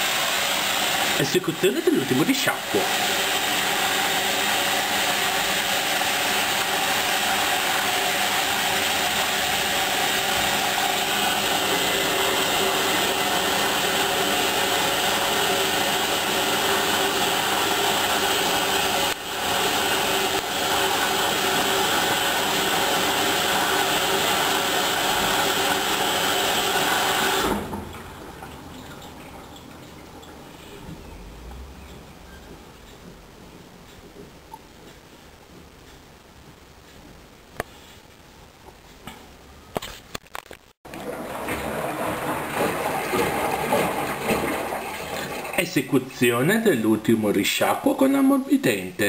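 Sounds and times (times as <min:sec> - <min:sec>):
washing machine whirring: 0:00.0 - 0:37.3, 0:40.8 - 0:48.4.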